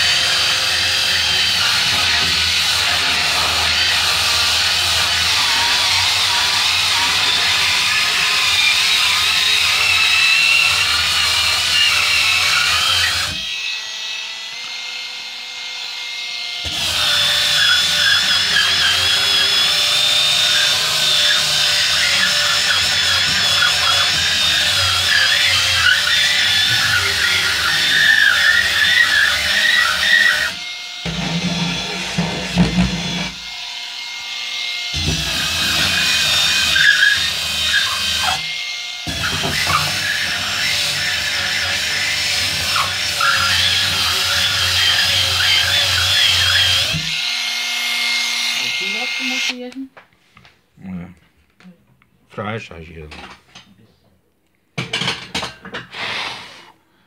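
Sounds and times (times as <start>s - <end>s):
electric sander whining: 0.0s - 49.7s.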